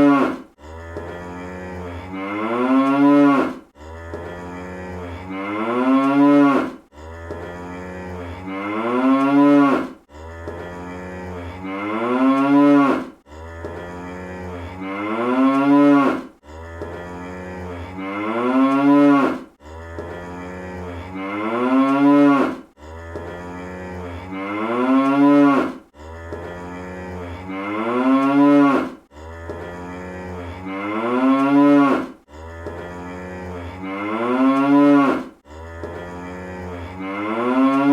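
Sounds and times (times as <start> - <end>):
cartoon cow mooing: 0.0 - 37.9.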